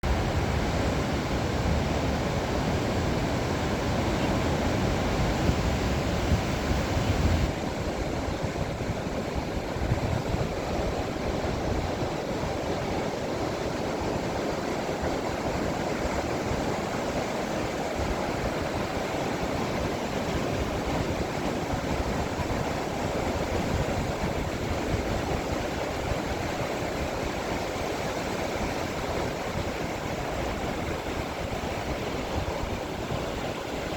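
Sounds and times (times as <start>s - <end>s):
ocean waves washing on shore: 0.0s - 33.9s.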